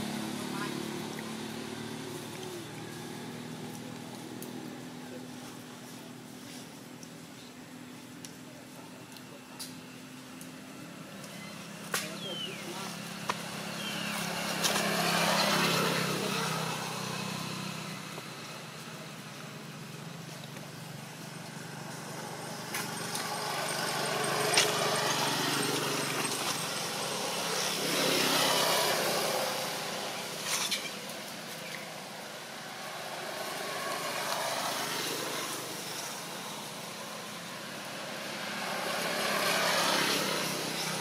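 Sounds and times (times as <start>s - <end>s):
traffic engine hum: 0.0s - 41.0s
vehicles passing: 0.0s - 41.0s.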